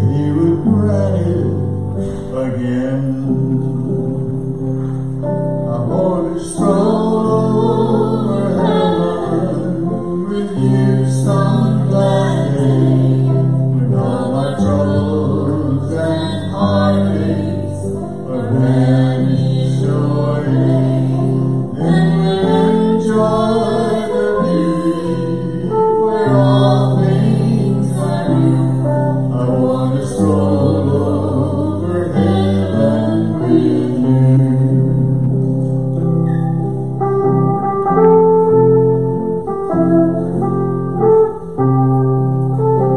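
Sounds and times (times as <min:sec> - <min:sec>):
people singing: 0:00.0 - 0:35.5
electric and acoustic guitars: 0:00.0 - 0:42.9
gospel band playing: 0:00.0 - 0:42.9.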